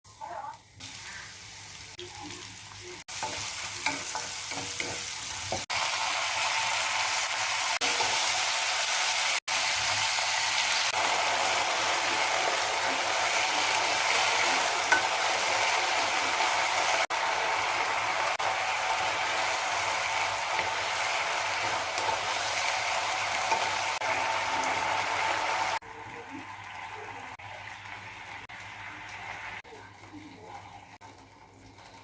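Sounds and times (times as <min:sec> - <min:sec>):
food sizzling in hot oil: 0:00.1 - 0:32.0.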